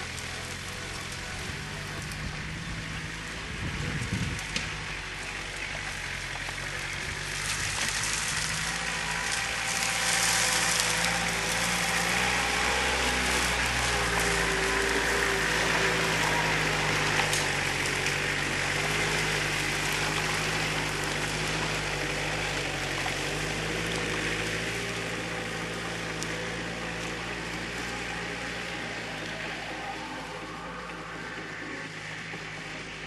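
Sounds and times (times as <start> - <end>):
car engine running while driving: 0.0 - 33.0.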